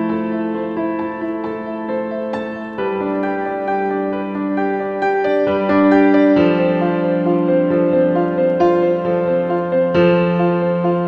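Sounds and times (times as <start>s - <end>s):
soft keyboard music: 0.0s - 11.0s.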